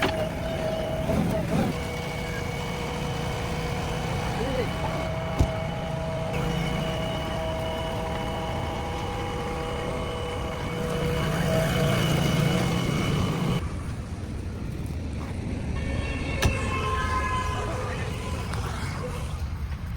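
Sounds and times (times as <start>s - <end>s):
diesel engine running with whine: 0.0s - 19.9s.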